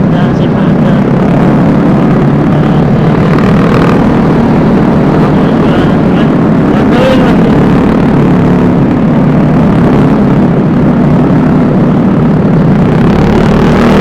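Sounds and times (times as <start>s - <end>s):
scooter engine drone: 0.0s - 14.0s
wind and road noise: 0.0s - 14.0s.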